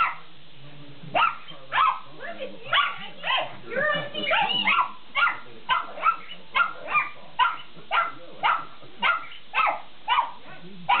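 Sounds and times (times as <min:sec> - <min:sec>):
dog barking: 0:00.0 - 0:00.3, 0:01.1 - 0:02.1, 0:02.7 - 0:03.6, 0:04.2 - 0:11.0.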